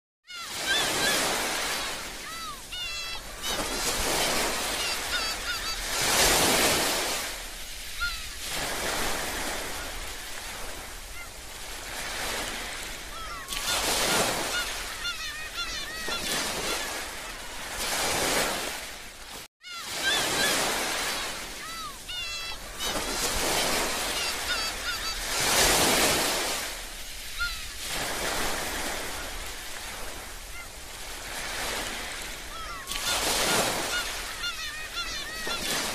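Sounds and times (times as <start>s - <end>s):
birds calling: 0.3s - 11.4s, 12.0s - 18.8s, 19.6s - 29.2s, 31.4s - 35.9s
ocean waves washing onto beach: 0.3s - 35.9s.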